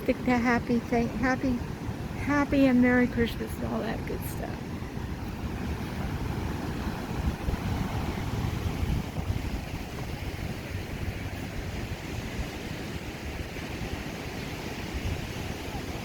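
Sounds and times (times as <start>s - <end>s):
ocean surf rushing: 0.0s - 16.0s
wind buffeting microphone: 0.0s - 16.0s.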